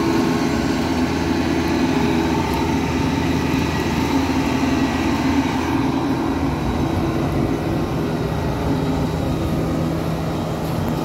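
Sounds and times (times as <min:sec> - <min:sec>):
combine harvester engine running: 0:00.0 - 0:11.0.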